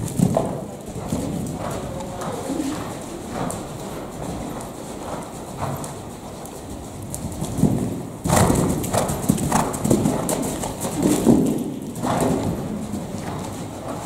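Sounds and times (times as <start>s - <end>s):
horse hoofbeats on soft ground: 0.0s - 14.0s.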